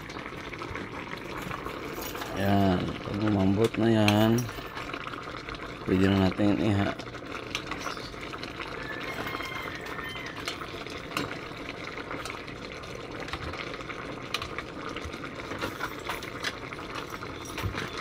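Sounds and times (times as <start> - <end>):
stew bubbling: 0.0 - 18.0.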